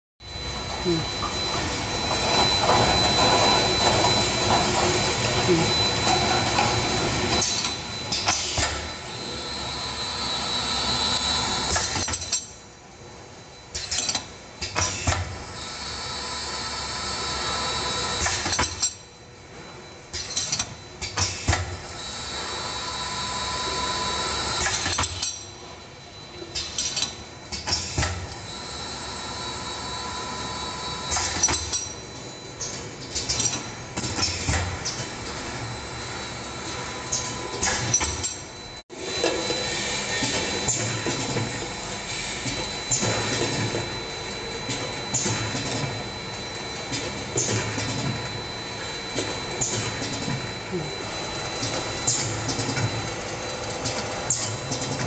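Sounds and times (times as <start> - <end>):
bottle filling machine whirr and hiss: 0.4 - 55.0.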